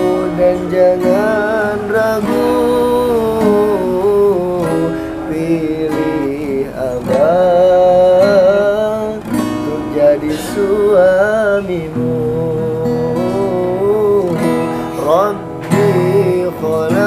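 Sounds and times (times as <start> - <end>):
acoustic guitar strumming: 0.0 - 17.0
man singing: 0.0 - 17.0.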